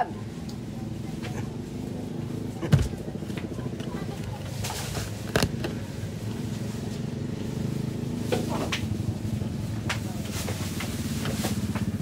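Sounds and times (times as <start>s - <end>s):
small engine idling: 0.3s - 12.0s.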